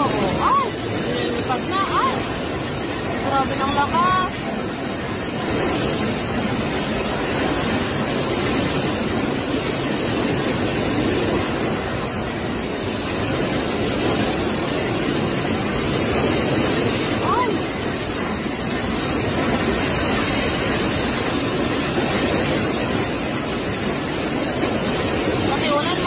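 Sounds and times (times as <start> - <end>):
strong wind through trees: 0.0 - 26.0.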